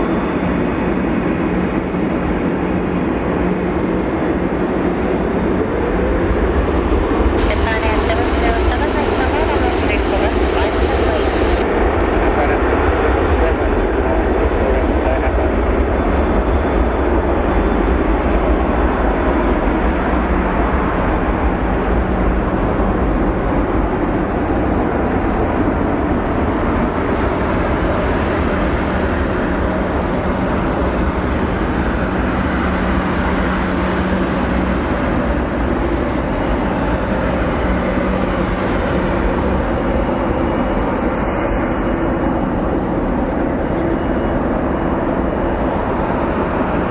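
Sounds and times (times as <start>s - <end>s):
jet airliner taking off: 0.0s - 46.9s.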